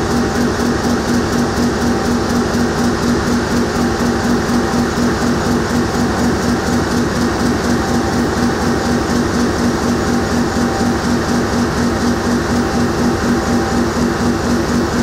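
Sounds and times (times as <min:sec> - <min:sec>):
loud mechanical clatter: 0:00.0 - 0:15.0.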